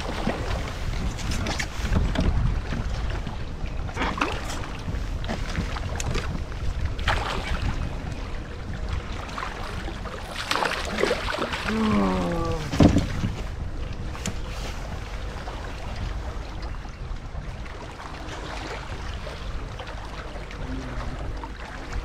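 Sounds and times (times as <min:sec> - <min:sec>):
water splashing against kayak: 0:00.0 - 0:22.0
wind buffeting microphone: 0:00.0 - 0:22.0.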